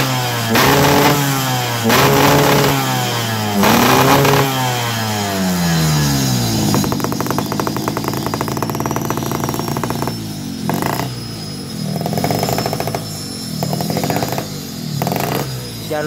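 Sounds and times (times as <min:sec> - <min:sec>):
exhaust crackle: 0:00.0 - 0:16.0
two-stroke motorcycle revving: 0:00.0 - 0:16.0.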